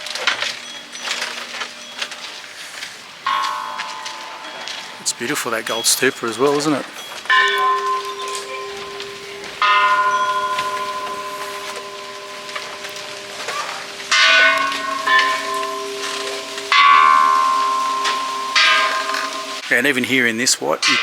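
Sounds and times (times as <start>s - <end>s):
temple bells ringing: 0.0s - 21.0s
lower bell ringing: 3.2s - 20.2s.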